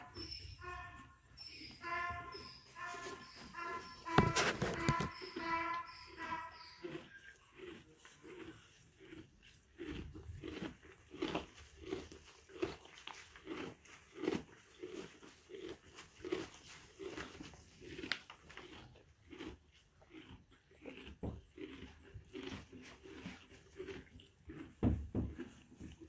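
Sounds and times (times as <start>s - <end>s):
donkey chewing hay: 0.0s - 26.0s.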